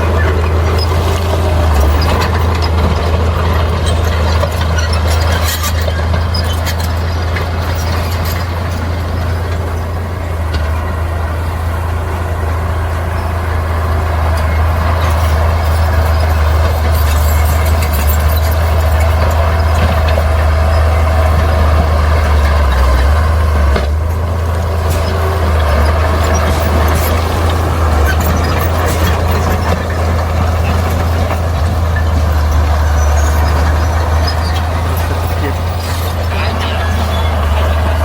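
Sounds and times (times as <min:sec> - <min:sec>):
bulldozer diesel engine drone: 0:00.0 - 0:38.0
clanks from tracks and rock: 0:00.0 - 0:38.0.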